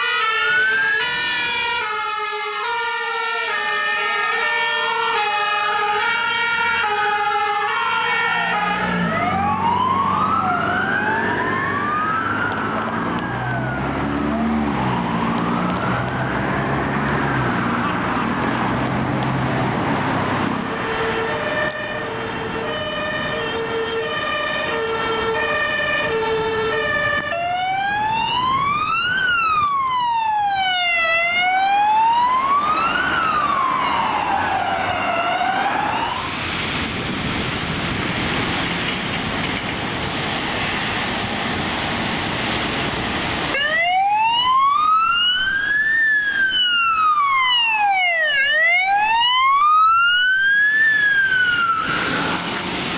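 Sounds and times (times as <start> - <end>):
two-tone siren horn: 0.0 - 18.2, 20.6 - 36.4, 43.6 - 52.5
wailing siren: 0.0 - 38.7, 42.4 - 52.9
traffic noise: 0.0 - 52.9.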